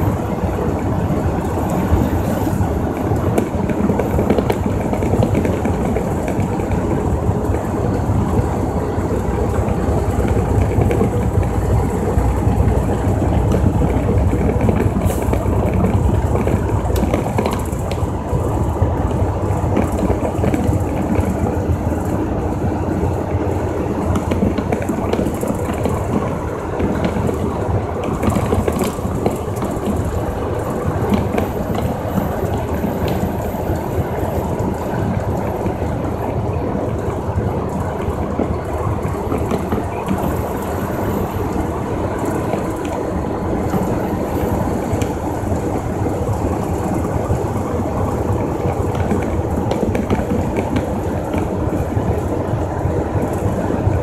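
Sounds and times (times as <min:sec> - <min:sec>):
truck engine and road noise: 0:00.0 - 0:54.0
cab rattles and clicks: 0:00.7 - 0:54.0.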